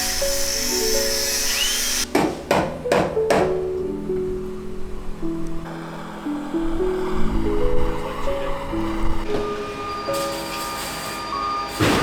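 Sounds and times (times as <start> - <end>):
background music melody of held notes: 0.0 - 12.0.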